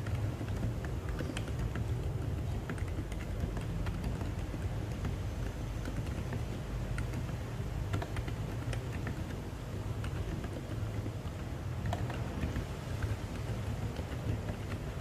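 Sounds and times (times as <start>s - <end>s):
keyboard keystroke clicks: 0.0s - 9.4s, 10.0s - 15.0s
steady low hum: 0.0s - 15.0s.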